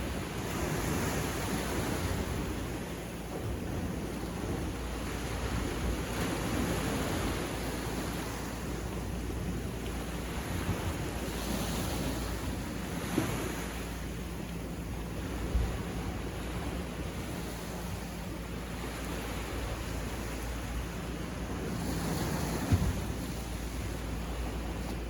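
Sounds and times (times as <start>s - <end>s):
sea waves breaking on beach: 0.0s - 25.0s
wind rumble on microphone: 0.0s - 25.0s.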